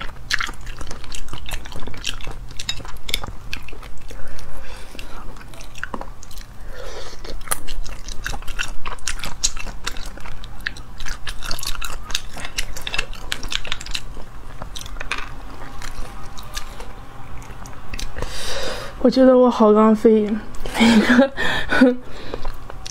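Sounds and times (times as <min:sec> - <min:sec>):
chewing and mouth sounds: 0:00.0 - 0:18.8, 0:20.1 - 0:22.9.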